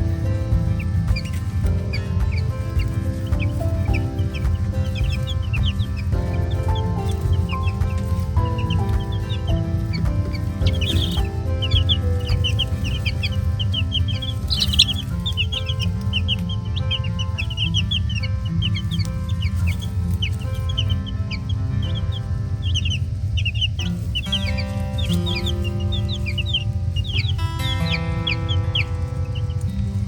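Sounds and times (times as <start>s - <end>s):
baby chicks peeping: 0.0s - 30.0s
background music with held chords: 0.0s - 30.0s.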